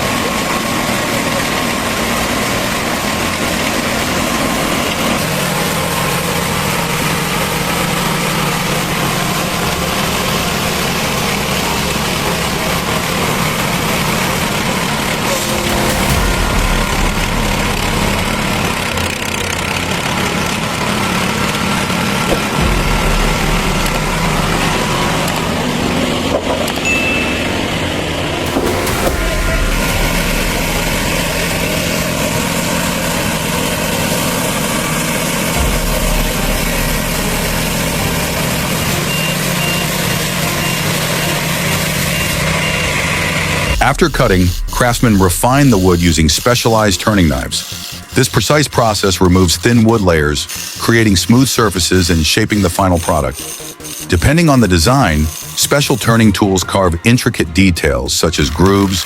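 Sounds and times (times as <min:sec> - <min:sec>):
machinery engine running: 0:00.0 - 0:59.0.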